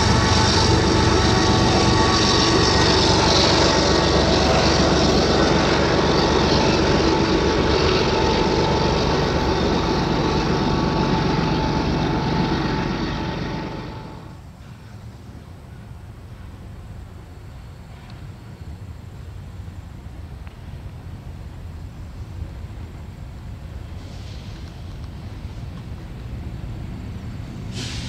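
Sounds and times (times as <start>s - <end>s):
diesel engine drone: 0.0s - 28.0s
train cars rumbling on rails: 0.0s - 28.0s.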